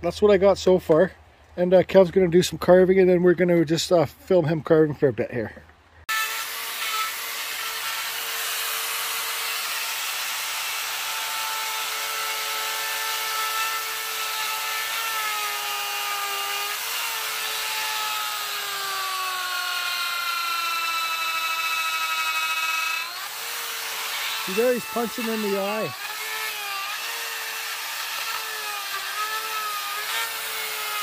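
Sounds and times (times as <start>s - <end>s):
power carving tool whining: 6.1s - 31.0s.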